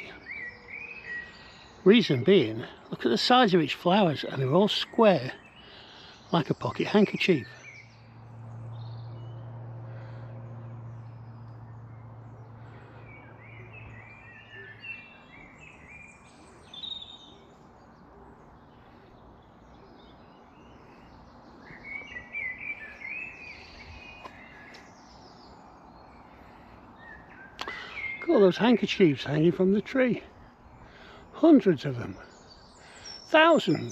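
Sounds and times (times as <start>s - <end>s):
birds chirping song: 0.0s - 33.9s.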